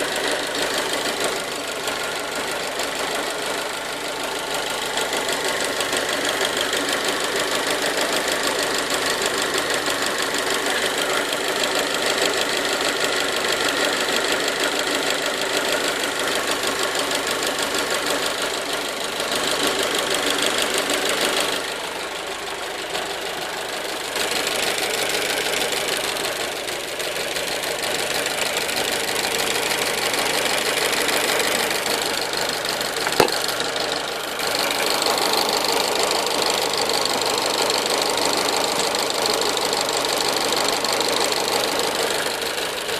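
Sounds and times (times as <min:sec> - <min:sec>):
fast ticking clatter: 0:00.0 - 0:42.9
petrol engine running: 0:00.0 - 0:42.9.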